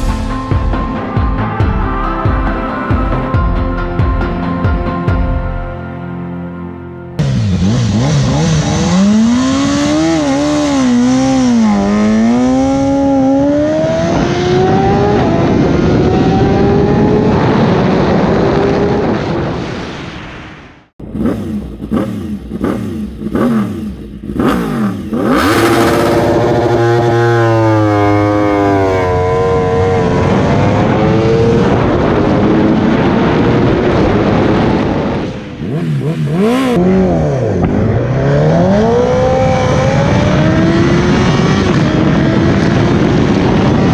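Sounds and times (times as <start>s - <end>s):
motorcycle engine accelerating: 7.2s - 19.4s, 21.0s - 43.9s.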